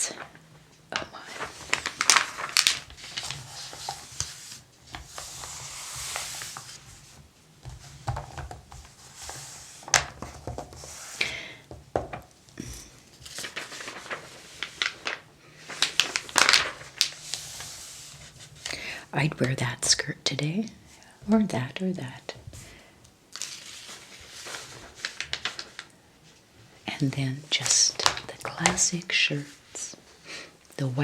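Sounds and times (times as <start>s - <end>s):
paper pages rustling: 0.0s - 19.7s, 23.3s - 30.2s.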